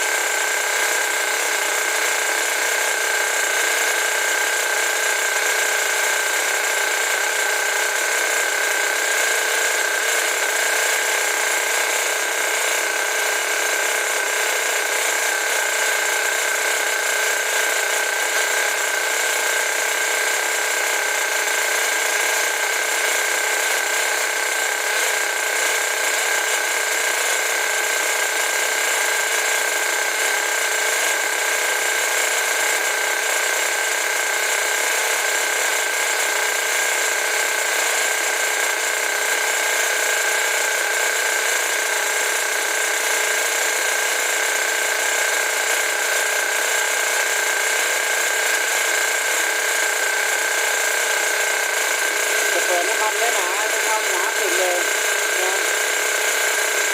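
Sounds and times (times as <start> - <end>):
small motor whirring: 0.0 - 56.9.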